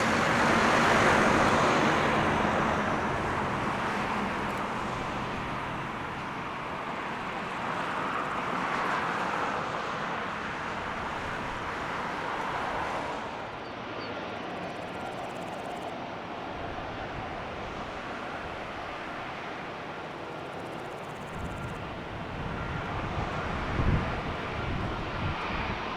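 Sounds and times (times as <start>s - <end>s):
jet engines at takeoff thrust: 0.0s - 25.9s.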